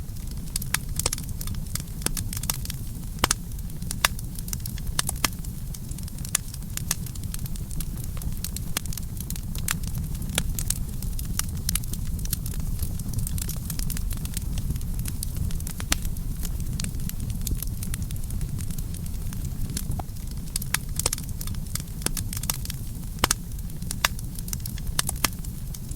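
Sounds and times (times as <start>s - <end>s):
campfire low rumble: 0.0s - 25.9s
wood crackling and popping: 0.0s - 25.9s.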